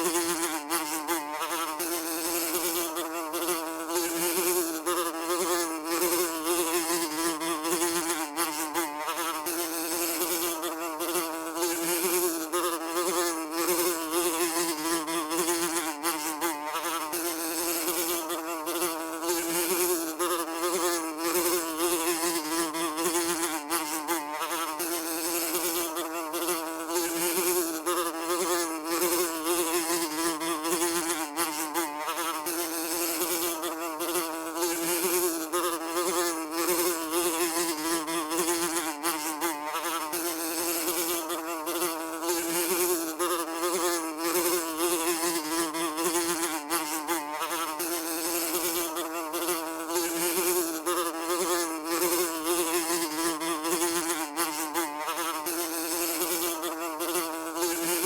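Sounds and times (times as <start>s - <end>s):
housefly buzzing: 0.0s - 58.0s.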